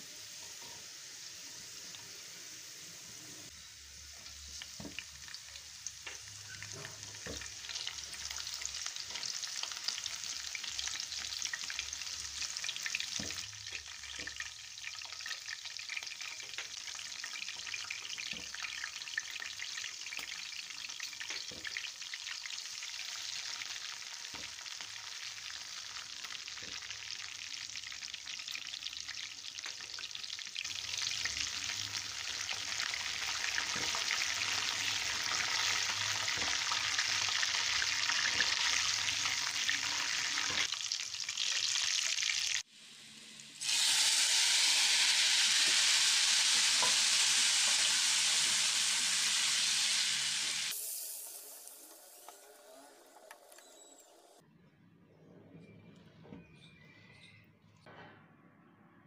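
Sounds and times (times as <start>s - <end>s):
hot oil sizzling: 0.0s - 54.4s.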